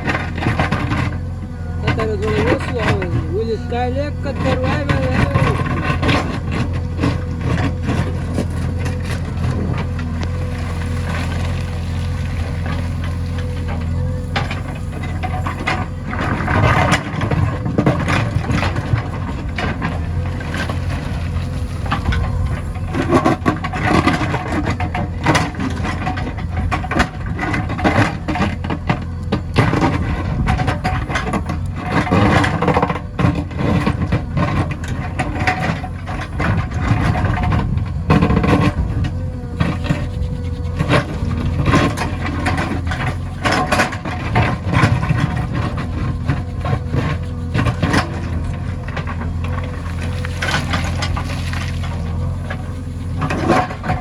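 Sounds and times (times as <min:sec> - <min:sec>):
diesel engine running: 0:00.0 - 0:54.0
knocks and clatter: 0:04.2 - 0:54.0.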